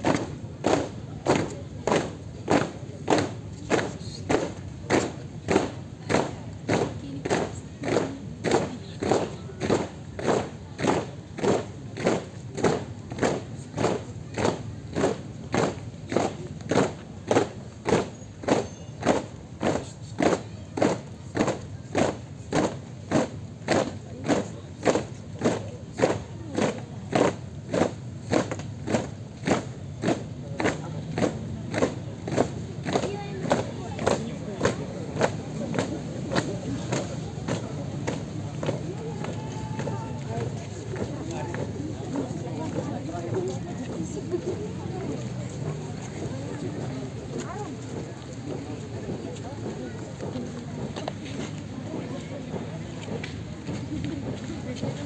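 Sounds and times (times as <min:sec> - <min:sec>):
boots stamping in unison: 0:00.0 - 0:44.5.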